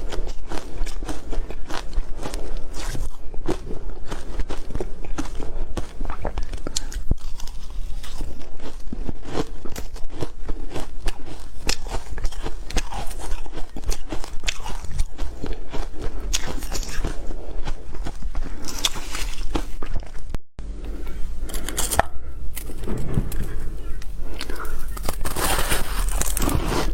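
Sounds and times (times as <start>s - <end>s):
ice crunching being chewed: 0.0s - 20.3s, 21.4s - 26.9s.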